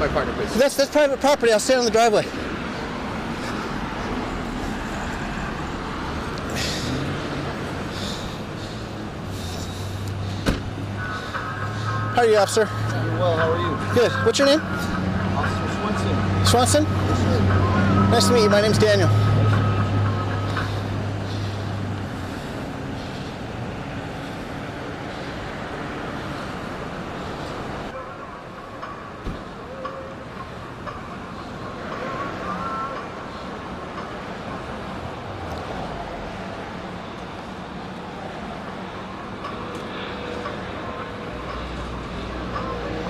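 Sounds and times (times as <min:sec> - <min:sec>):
street traffic hum: 0:00.0 - 0:43.0.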